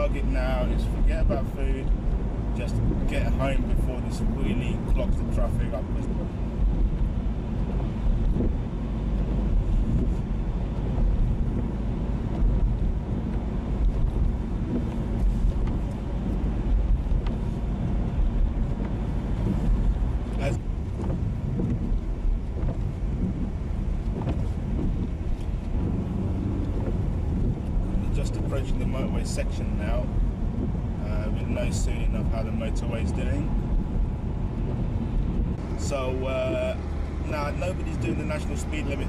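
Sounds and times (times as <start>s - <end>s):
road and engine rumble in car: 0.0s - 39.0s.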